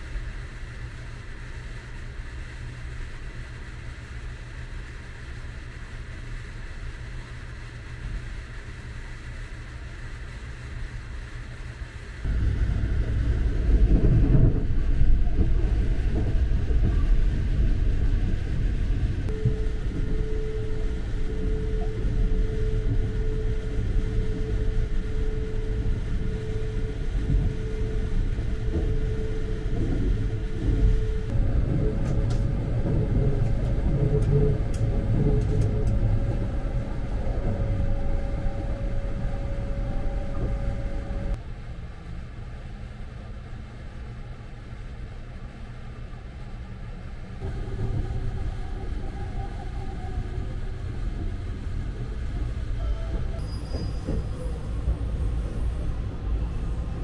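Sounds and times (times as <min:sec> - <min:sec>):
steady hum: 0:00.0 - 0:57.0
wheels rumbling on track: 0:00.0 - 0:57.0.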